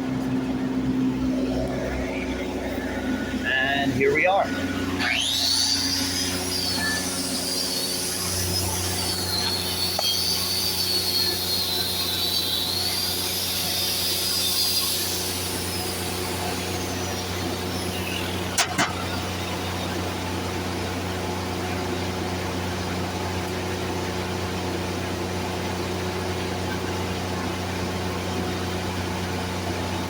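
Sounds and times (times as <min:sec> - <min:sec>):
high wavering whine: 0:00.0 - 0:25.1
welding machine engine hum: 0:00.0 - 0:30.0.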